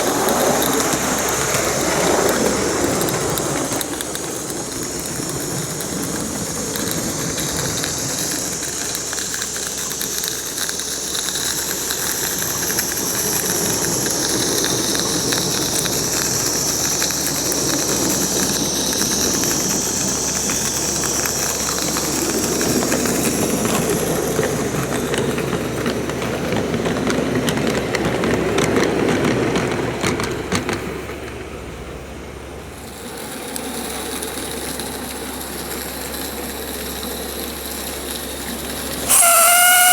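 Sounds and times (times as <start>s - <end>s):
steam hiss: 0.0s - 28.8s, 32.6s - 39.9s
small wheels clicking on track: 0.0s - 39.9s.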